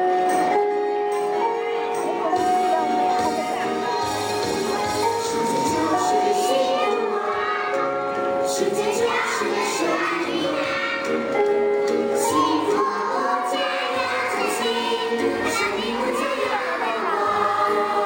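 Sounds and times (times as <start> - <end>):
instrumental backing music: 0.0 - 18.0
children singing together: 2.8 - 18.0.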